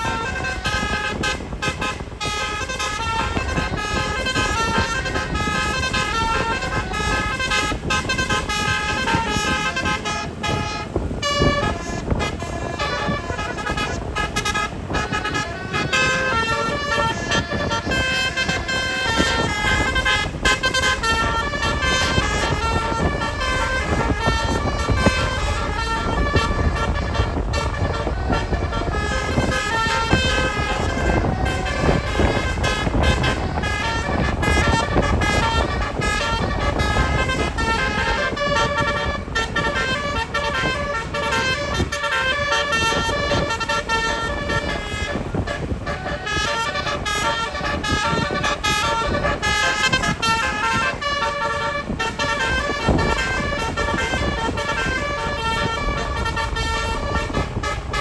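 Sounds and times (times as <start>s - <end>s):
multi-tone air horns playing tune: 0.0s - 58.0s.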